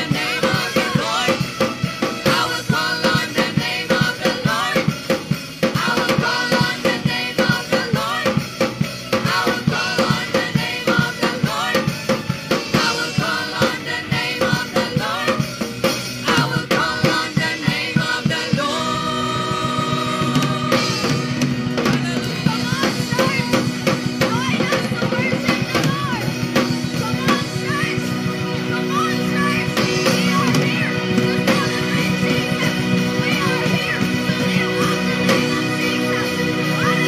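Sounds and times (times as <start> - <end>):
drum kit beat: 0.0 - 37.0
live band music: 0.0 - 37.0.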